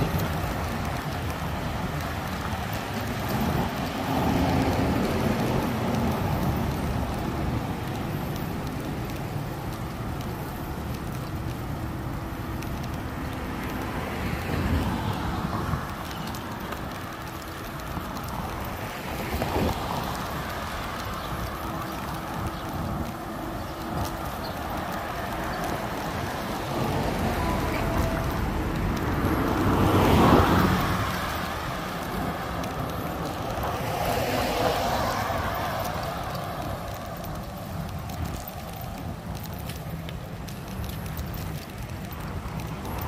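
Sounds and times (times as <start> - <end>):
road traffic rushing: 0.0 - 43.0
vehicles passing: 0.0 - 43.0.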